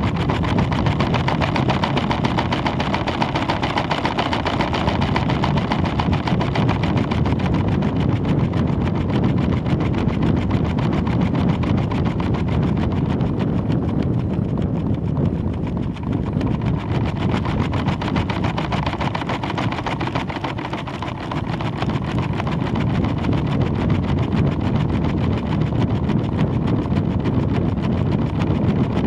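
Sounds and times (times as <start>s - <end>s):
fast even rattle: 0.0s - 29.0s
steady rushing wind noise: 0.0s - 29.0s.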